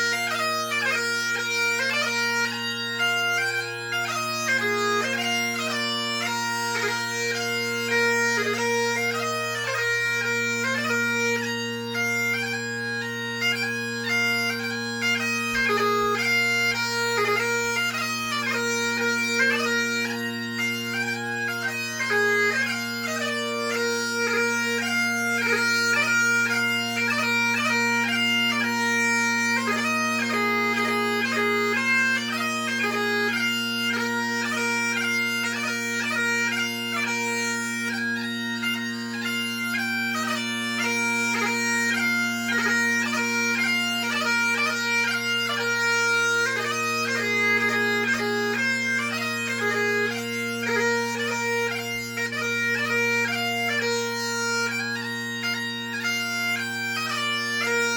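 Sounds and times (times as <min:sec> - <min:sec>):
bagpipe playing a march: 0:00.0 - 0:57.9.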